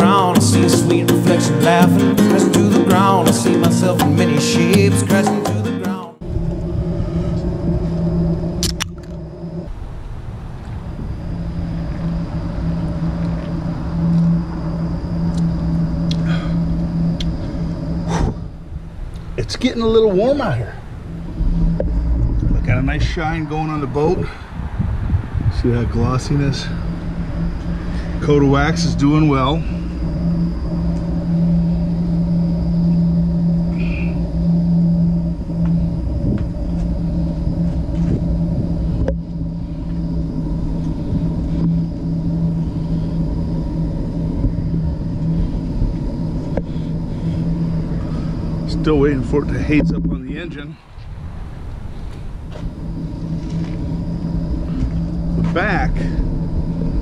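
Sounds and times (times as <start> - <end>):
low mechanical hum: 6.2 - 57.0.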